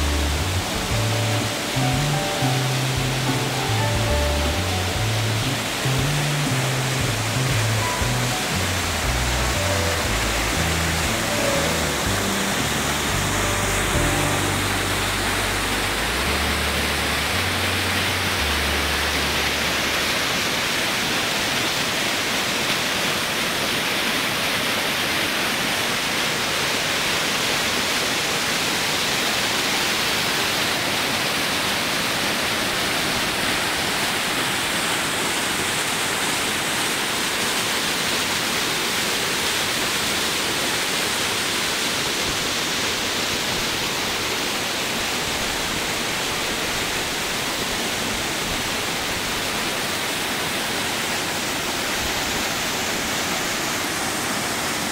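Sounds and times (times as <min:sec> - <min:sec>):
stream water rushing over rocks: 0:00.0 - 0:54.9.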